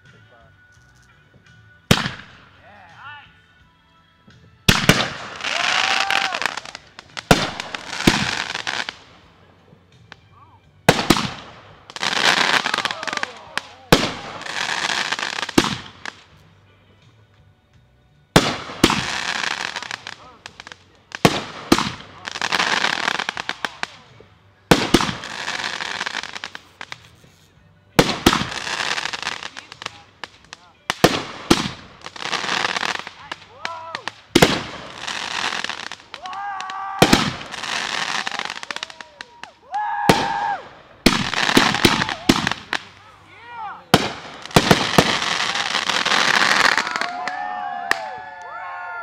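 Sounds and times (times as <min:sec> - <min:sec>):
fireworks crackling: 0:00.0 - 0:03.1, 0:04.6 - 0:49.0
fireworks bangs: 0:01.9 - 0:02.5, 0:04.7 - 0:09.3, 0:10.9 - 0:16.3, 0:18.3 - 0:27.3, 0:28.0 - 0:48.2.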